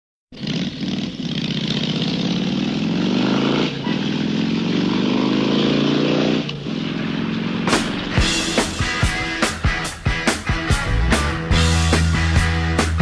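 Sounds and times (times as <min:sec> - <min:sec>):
motorcycle engine accelerating: 0:00.4 - 0:13.0.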